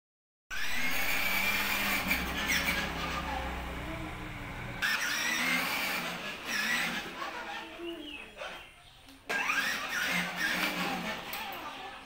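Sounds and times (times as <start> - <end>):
toy motorcycle motor humming: 0.5 - 8.7, 9.3 - 12.0.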